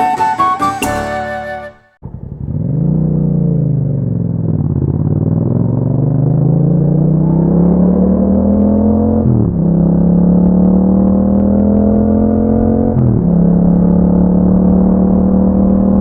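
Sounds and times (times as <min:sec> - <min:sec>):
motorcycle engine revving: 0:02.0 - 0:16.0.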